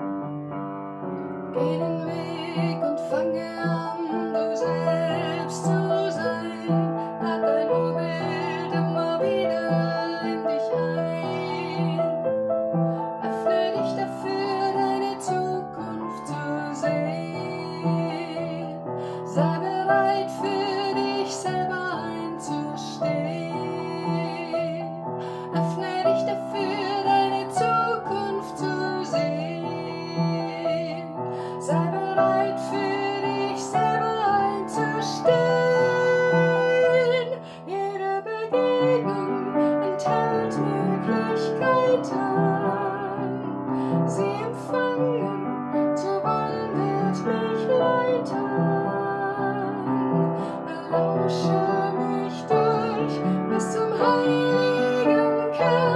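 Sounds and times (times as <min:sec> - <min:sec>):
upright piano: 0:00.0 - 0:55.9
woman singing with vibrato: 0:01.6 - 0:12.2, 0:13.0 - 0:55.9.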